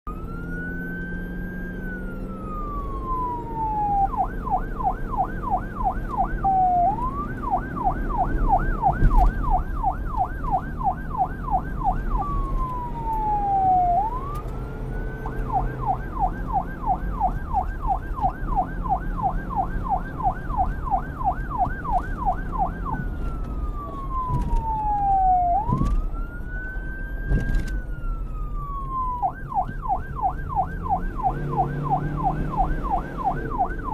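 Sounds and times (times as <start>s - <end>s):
engine and road rumble: 0.0s - 33.9s
police siren wail and yelp: 0.1s - 33.9s.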